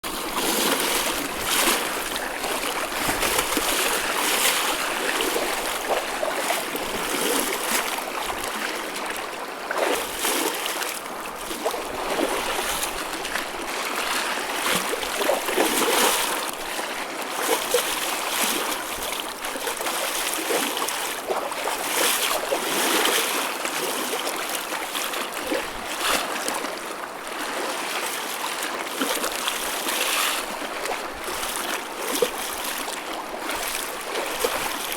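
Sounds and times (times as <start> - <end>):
small waves washing and splashing: 0.0 - 34.9.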